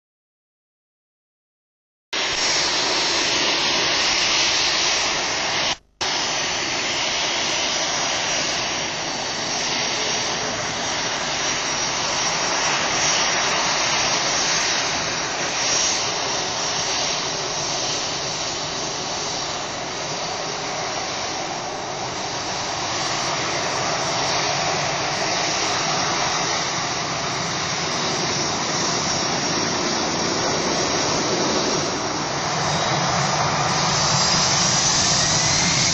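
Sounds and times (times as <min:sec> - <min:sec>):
jet engines roaring with whine: 0:02.2 - 0:35.9.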